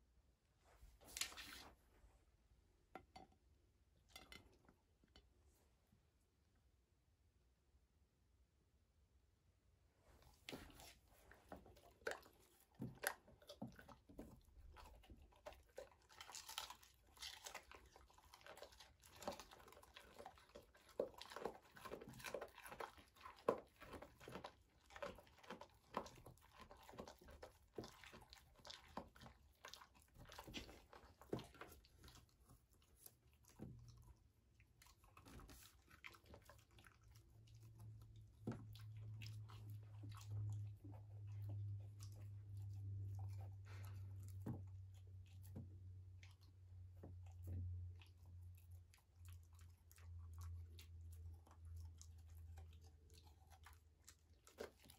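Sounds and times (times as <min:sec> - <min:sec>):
dogs chewing and crunching food: 0:10.1 - 0:54.9.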